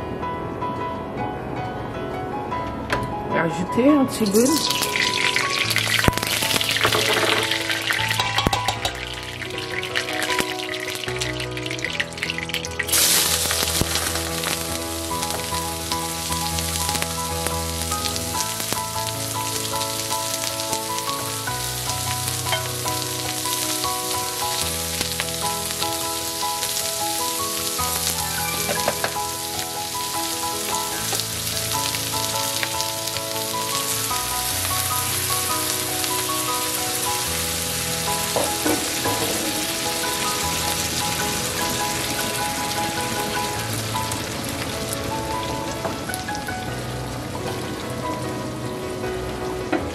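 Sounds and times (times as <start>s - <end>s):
onions sizzling in hot oil: 4.2s - 49.9s.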